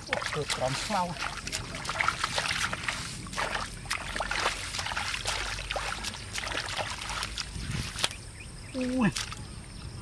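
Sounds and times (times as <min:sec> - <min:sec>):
sloshing through muddy water: 0:00.0 - 0:09.6.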